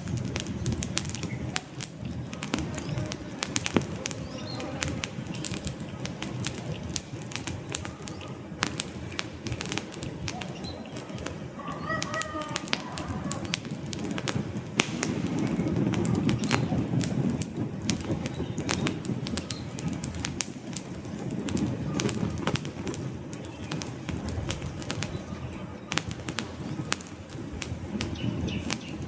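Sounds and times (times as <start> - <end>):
sharp pops and snaps: 0.0 - 25.3, 25.9 - 29.0
low rumble of burning logs: 0.0 - 29.0
wood fire crackling: 0.0 - 29.0.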